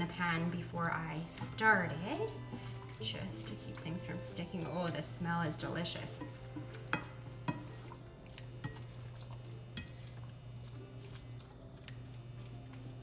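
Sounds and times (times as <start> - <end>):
food sizzling in a frying pan: 0.1 - 12.7.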